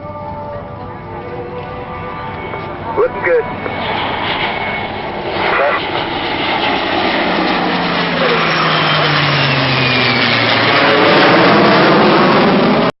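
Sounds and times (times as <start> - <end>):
aircraft engines roaring overhead: 0.0 - 13.0.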